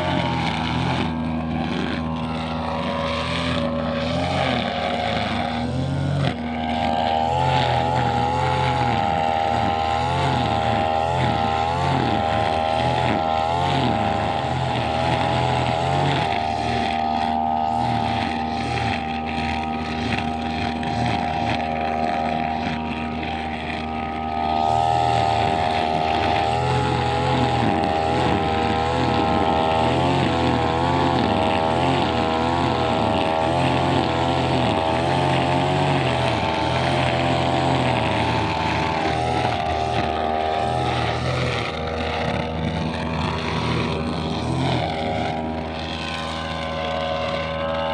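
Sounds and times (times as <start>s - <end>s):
brushcutter engine running: 0.0s - 47.9s.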